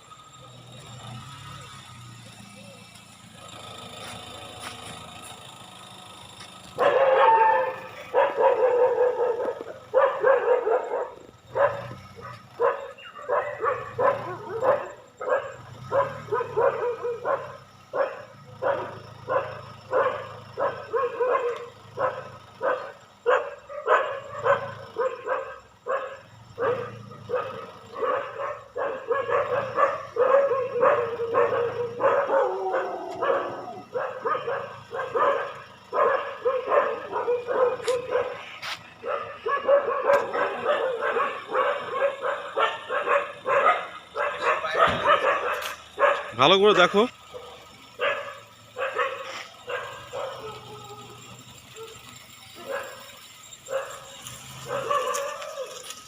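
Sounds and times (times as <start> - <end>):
dog barking: 6.8 - 52.0, 52.6 - 55.9.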